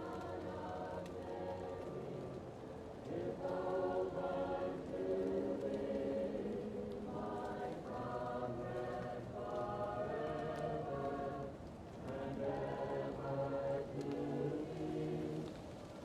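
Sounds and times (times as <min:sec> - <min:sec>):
muffled choir singing: 0:00.0 - 0:16.0
wood fire crackling: 0:00.0 - 0:16.0.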